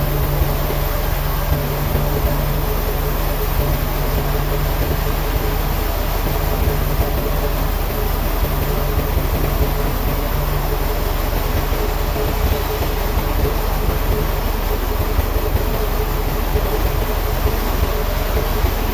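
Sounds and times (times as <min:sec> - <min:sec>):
heavy machinery humming: 0:00.0 - 0:18.9.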